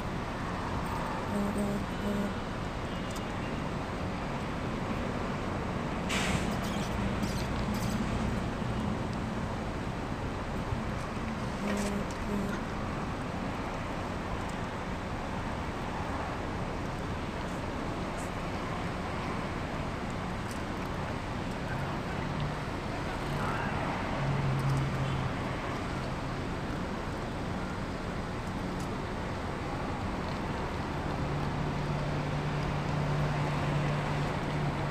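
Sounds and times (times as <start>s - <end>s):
distant road traffic rumble: 0.0s - 34.9s.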